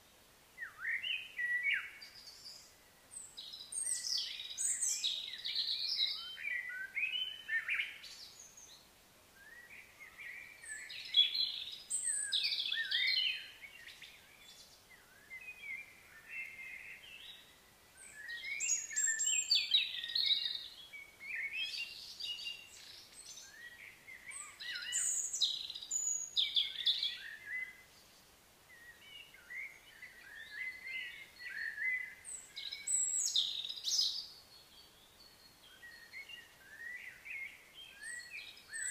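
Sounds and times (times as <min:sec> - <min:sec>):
small birds singing and chirping: 0:00.0 - 0:38.9.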